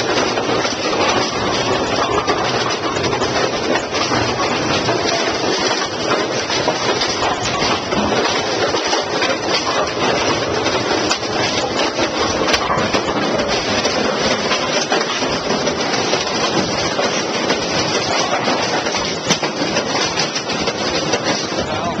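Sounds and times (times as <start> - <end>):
bowling pinsetters clattering: 0.0 - 22.0.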